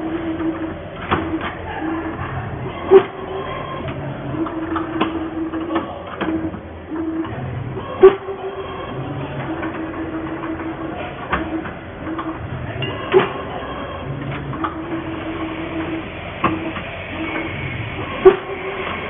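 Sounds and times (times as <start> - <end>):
machine motor whine: 0.0 - 19.0.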